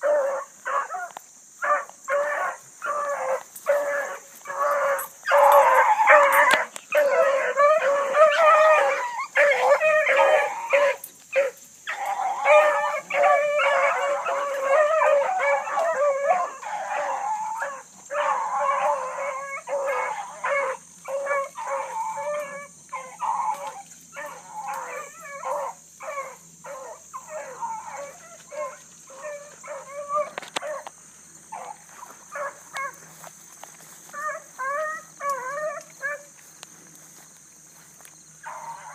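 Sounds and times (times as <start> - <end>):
hounds bawling in chorus: 0.0 - 38.9.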